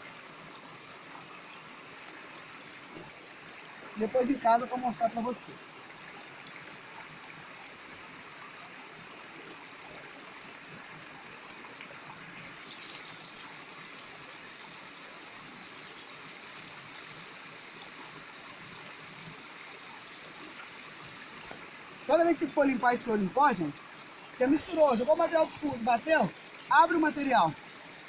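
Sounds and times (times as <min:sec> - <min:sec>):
creek flowing over rocks: 0:00.0 - 0:28.0.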